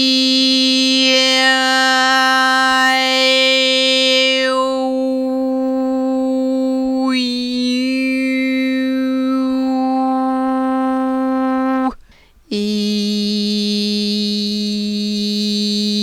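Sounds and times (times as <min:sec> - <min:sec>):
woman singing sustained vowels: 0:00.0 - 0:16.0.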